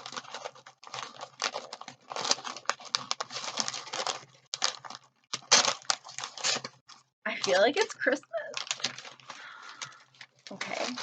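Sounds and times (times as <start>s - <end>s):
paper packaging crinkling: 0.0s - 11.0s.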